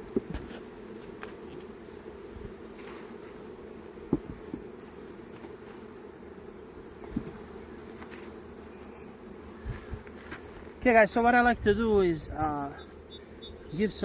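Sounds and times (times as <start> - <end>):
bee swarm buzzing: 0.0 - 14.0.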